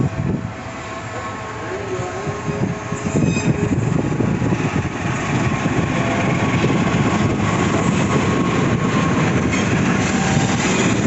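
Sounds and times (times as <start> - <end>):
diesel locomotive rumble: 0.0 - 11.0
train passing with rumble: 0.0 - 11.0.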